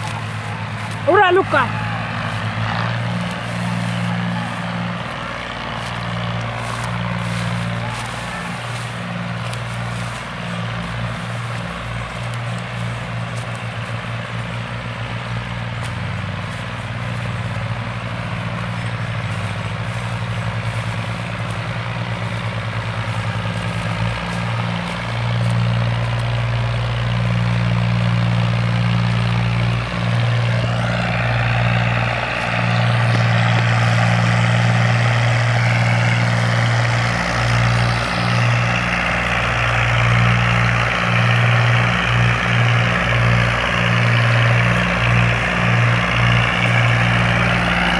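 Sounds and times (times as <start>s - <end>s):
diesel tractor engine under load: 0.0s - 47.9s
harsh noisy engine layer: 0.0s - 47.9s.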